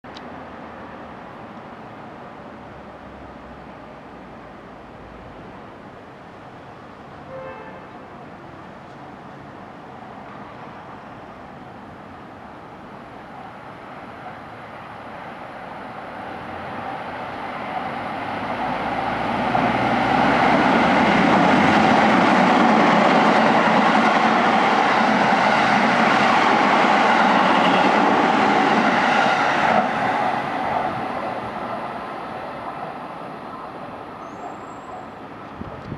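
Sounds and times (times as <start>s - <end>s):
electric train passing at speed: 0.2s - 35.9s.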